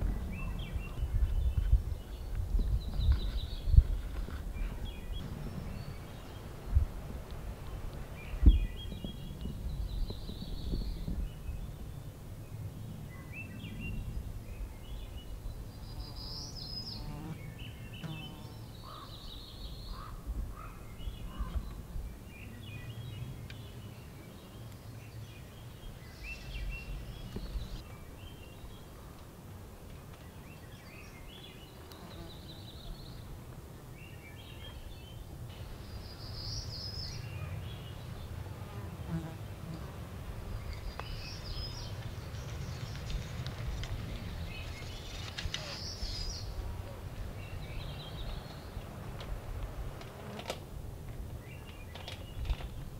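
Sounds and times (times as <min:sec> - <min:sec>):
birds chirping and trilling: 0:00.0 - 0:06.8, 0:07.7 - 0:29.2, 0:30.1 - 0:38.5, 0:40.5 - 0:48.9.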